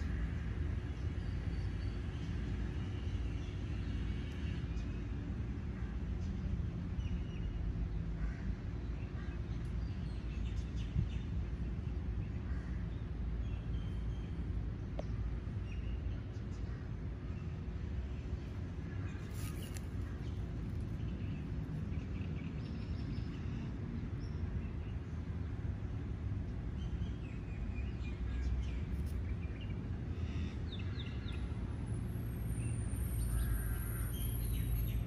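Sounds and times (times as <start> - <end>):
low rumble with faint hum: 0.0 - 35.0.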